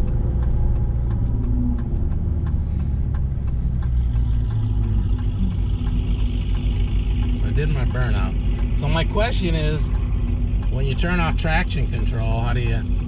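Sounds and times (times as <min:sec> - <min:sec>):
car engine running low: 0:00.0 - 0:13.0
light regular ticking: 0:00.0 - 0:13.0.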